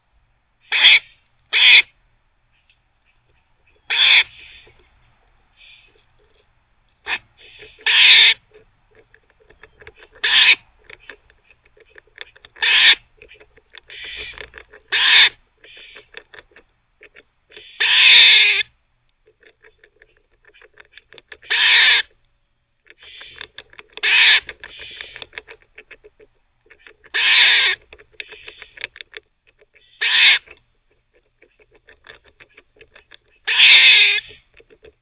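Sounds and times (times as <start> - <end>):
squirrel barking: 0.6 - 1.9, 2.5 - 6.4, 7.0 - 18.7, 19.4 - 22.2, 22.8 - 34.8
squirrel gnawing clicks: 2.6 - 18.0, 19.0 - 35.0.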